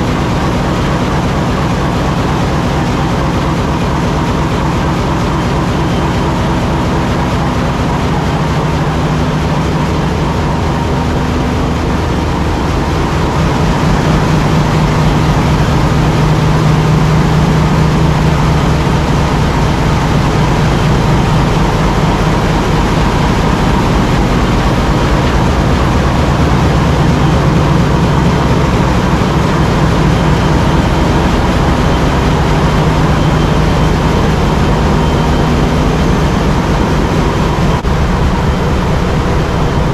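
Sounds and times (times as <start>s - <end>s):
diesel engine room drone: 0.0s - 39.9s.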